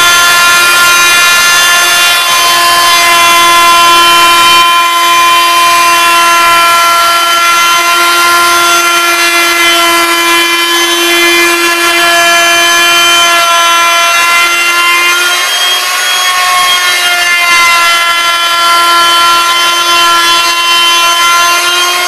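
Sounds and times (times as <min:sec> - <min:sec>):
wood router whining: 0:00.0 - 0:22.0.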